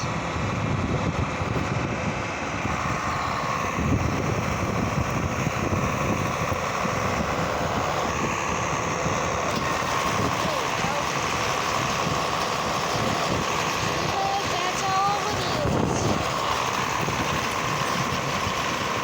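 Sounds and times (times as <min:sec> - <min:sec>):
tractor running: 0:00.0 - 0:19.0
wind buffeting microphone: 0:00.0 - 0:19.0.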